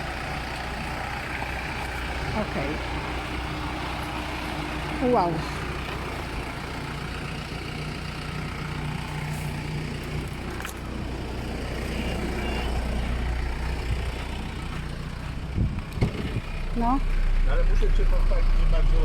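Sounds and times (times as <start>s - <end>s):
vehicle engine at low revs: 0.0s - 19.0s.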